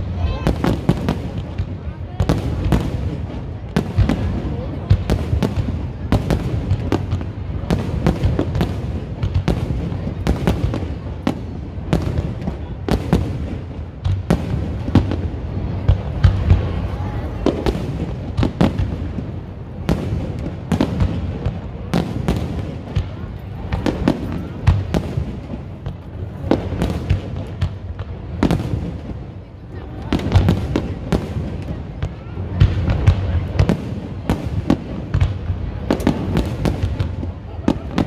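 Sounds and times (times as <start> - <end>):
fireworks bursting with sharp bangs: 0.0 - 38.0.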